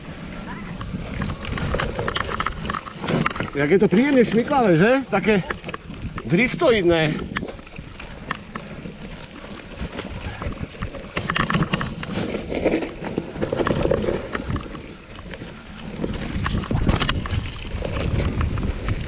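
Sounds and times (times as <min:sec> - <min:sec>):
bike knocking and rattling: 0:00.0 - 0:19.0
bike tyres over leaves and roots: 0:00.0 - 0:19.0
wind rumbling on microphone: 0:00.0 - 0:19.0.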